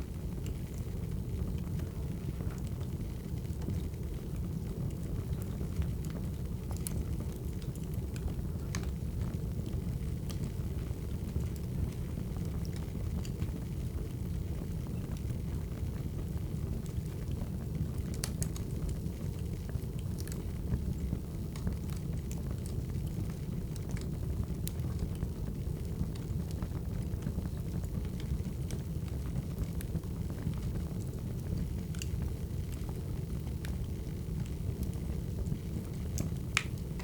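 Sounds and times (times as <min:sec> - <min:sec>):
fire low rumble: 0:00.0 - 0:37.0
fire pops and snaps: 0:00.3 - 0:14.7, 0:15.6 - 0:37.0.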